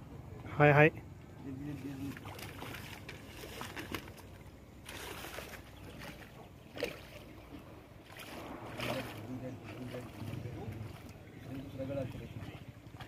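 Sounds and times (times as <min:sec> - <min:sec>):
river water splashing: 0:00.7 - 0:13.0.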